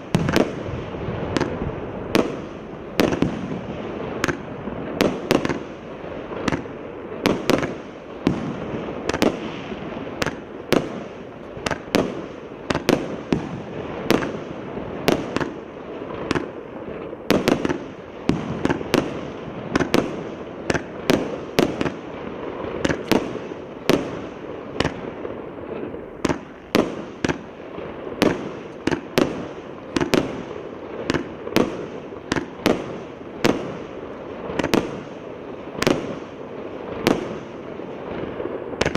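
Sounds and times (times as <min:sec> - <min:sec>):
fireworks banging: 0:00.0 - 0:38.9.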